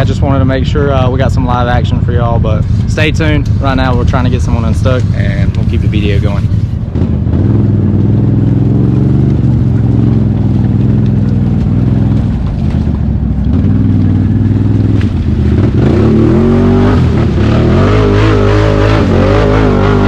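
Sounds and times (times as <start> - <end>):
quad engine revving: 1.5 - 20.0.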